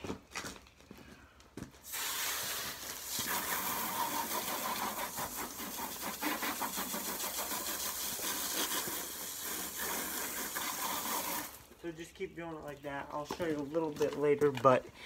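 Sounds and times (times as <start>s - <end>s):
garden hose spraying water: 1.8s - 14.6s.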